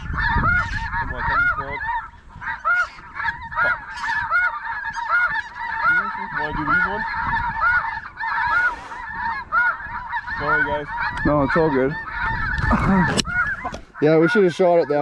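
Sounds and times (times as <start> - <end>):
background chorus of geese calls: 0.0 - 15.0
geese honking: 0.0 - 15.0.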